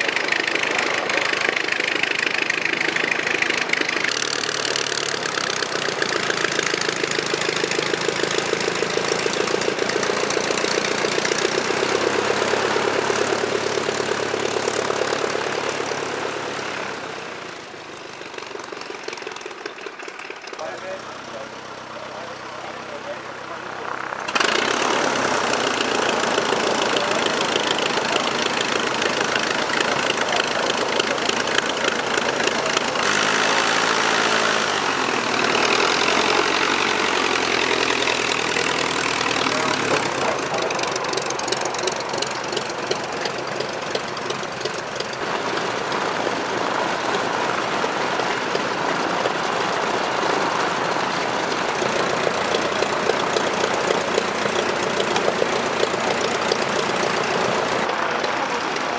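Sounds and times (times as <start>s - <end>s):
aircraft piston engine idling: 0.0s - 58.9s.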